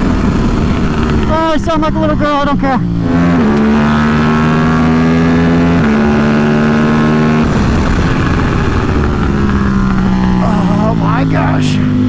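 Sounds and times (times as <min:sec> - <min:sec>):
motorcycle engine at high revs: 0:00.0 - 0:12.0
wind rush: 0:00.0 - 0:12.0.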